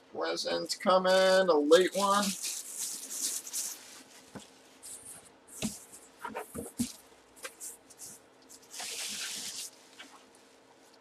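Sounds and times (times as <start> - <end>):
plastic bag crinkling: 1.2 - 10.6.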